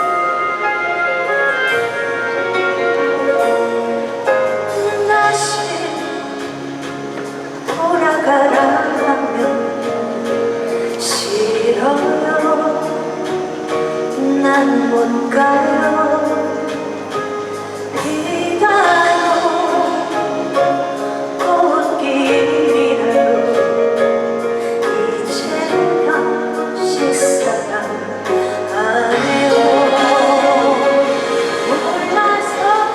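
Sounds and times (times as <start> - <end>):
musical accompaniment: 0.0 - 32.9
woman singing a slow ballad: 3.4 - 32.9.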